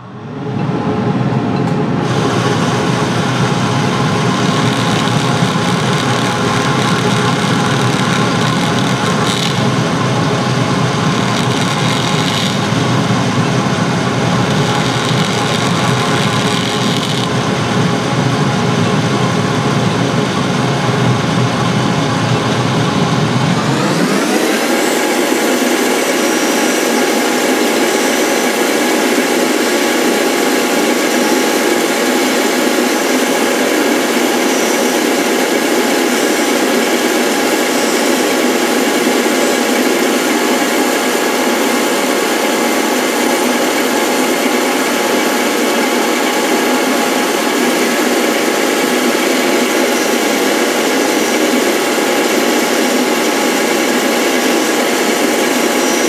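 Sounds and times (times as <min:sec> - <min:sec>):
lathe mechanical whir: 0:00.0 - 0:56.0.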